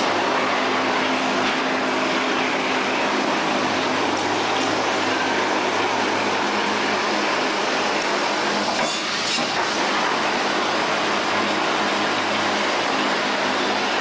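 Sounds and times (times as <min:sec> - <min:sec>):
factory machinery rushing noise: 0:00.0 - 0:14.0.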